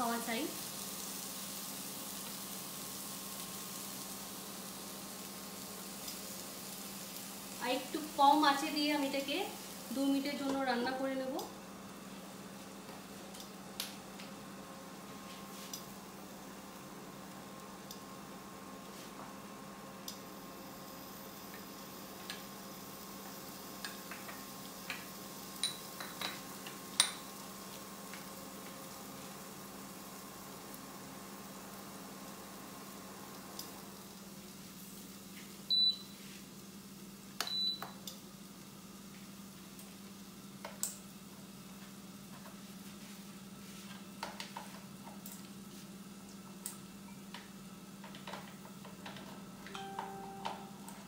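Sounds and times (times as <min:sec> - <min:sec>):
sharp clicks and pops of frying: 0:00.0 - 0:14.4, 0:15.6 - 0:42.7, 0:43.9 - 0:51.0
kebabs sizzling in pan: 0:00.0 - 0:49.0.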